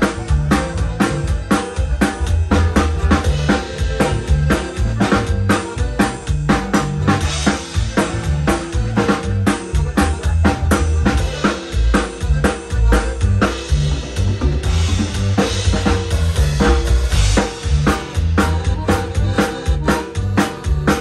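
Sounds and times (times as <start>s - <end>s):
bass line: 0.0s - 21.0s
drum kit beat: 0.0s - 21.0s
live band music: 0.0s - 21.0s.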